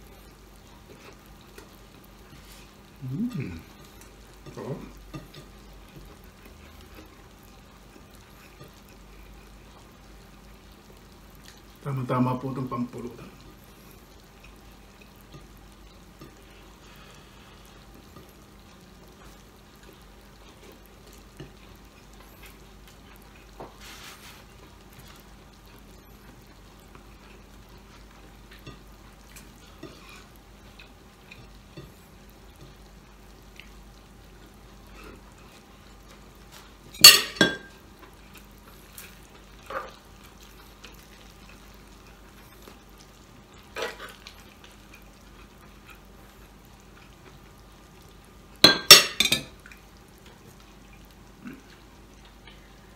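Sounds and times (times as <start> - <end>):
faint sizzling in a pan: 0.0 - 52.9.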